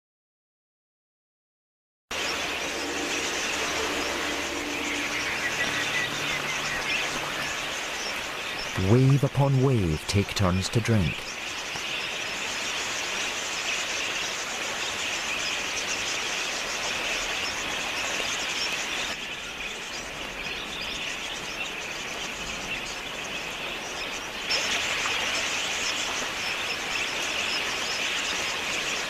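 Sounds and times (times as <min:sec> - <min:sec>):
flock of parakeets chattering: 0:02.2 - 0:29.0.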